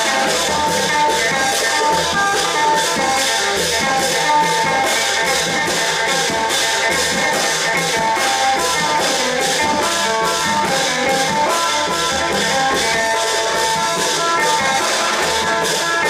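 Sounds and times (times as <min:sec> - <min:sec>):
cymbals struck in fast beat: 0:00.0 - 0:16.0
drum ensemble playing: 0:00.0 - 0:16.0.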